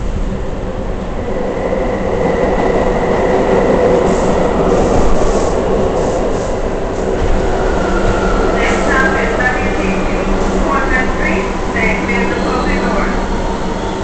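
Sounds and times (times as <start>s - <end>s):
subway wheels rumbling on rail: 0.0s - 14.0s.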